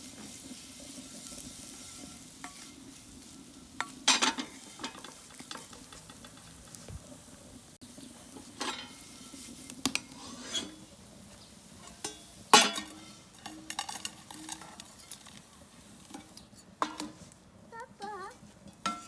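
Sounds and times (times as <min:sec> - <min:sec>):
food sizzling in a frying pan: 0:00.0 - 0:19.0
metal utensil scraping a pan: 0:00.2 - 0:06.8, 0:08.4 - 0:11.0, 0:11.8 - 0:19.0.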